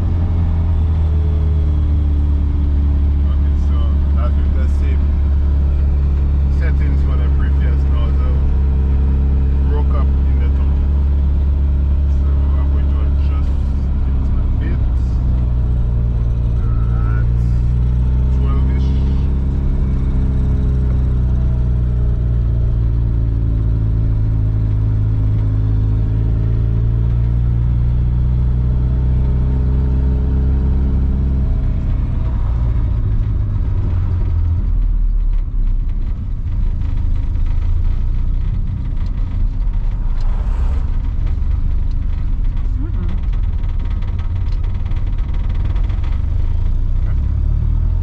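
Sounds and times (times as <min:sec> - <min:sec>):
car engine running: 0:00.0 - 0:48.0.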